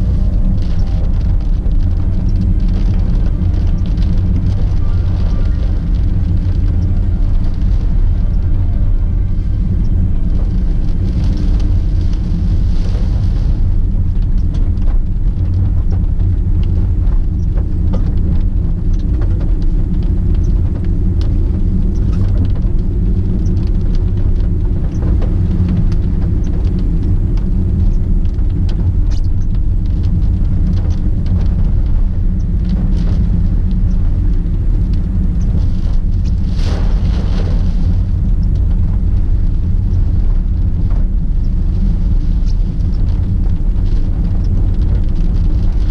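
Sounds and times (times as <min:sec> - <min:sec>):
road and engine rumble inside car: 0:00.0 - 0:45.9.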